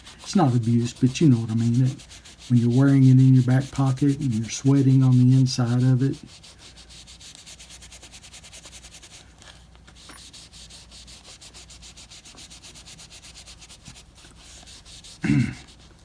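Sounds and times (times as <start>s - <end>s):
rubbing on leather: 0.0s - 16.0s.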